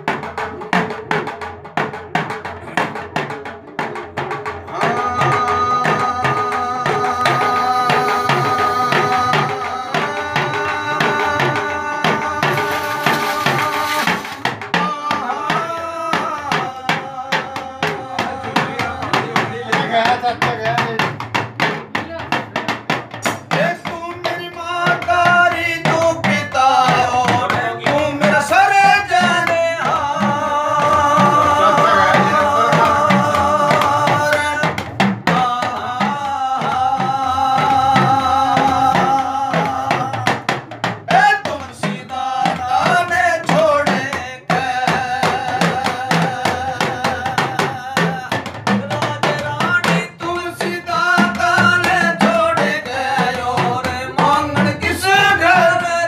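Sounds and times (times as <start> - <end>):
hand drums drumming: 0.0 - 56.0
men singing: 0.0 - 56.0.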